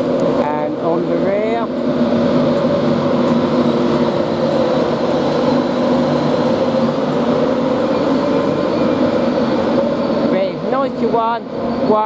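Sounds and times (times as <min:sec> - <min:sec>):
train humming: 0:00.0 - 0:11.9
noisy background: 0:00.0 - 0:12.0.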